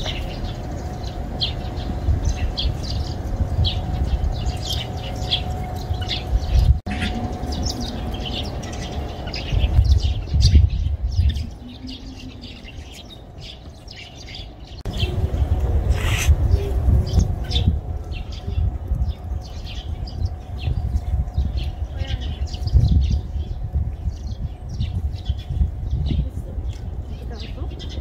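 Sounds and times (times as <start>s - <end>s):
small birds chirping: 0.0s - 28.0s
wind rumble on microphone: 0.0s - 28.0s.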